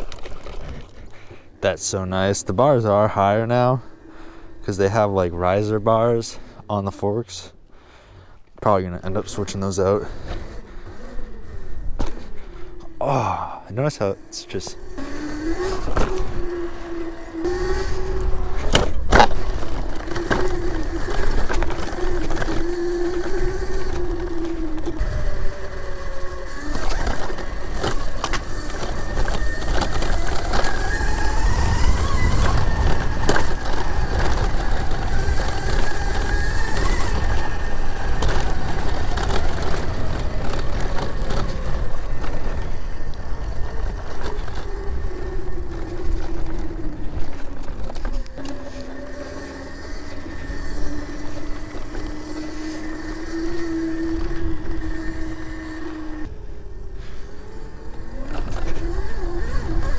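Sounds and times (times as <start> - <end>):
electric motor whine: 9.0 - 59.9.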